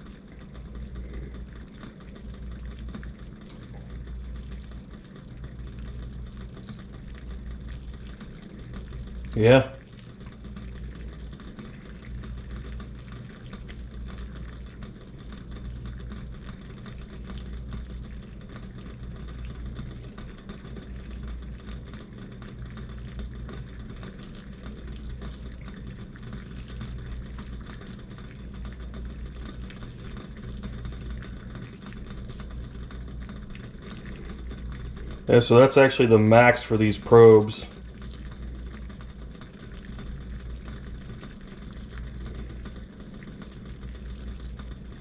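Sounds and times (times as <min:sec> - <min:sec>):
water boiling in a pot: 0:00.0 - 0:45.0.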